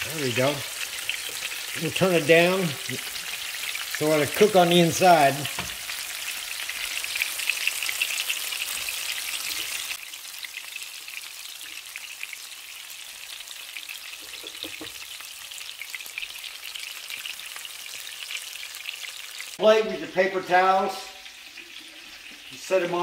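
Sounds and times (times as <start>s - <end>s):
patties sizzling in a skillet: 0.0s - 23.0s.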